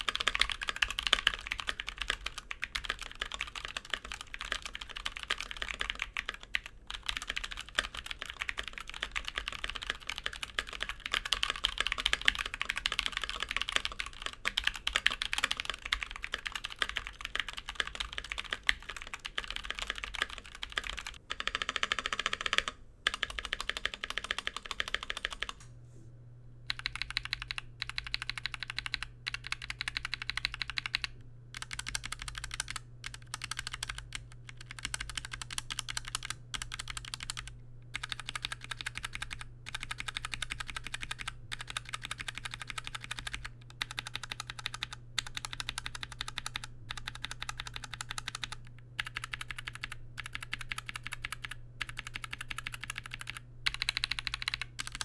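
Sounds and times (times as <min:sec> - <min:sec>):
mechanical keyboard typing: 0:00.0 - 0:25.7, 0:26.7 - 0:55.0.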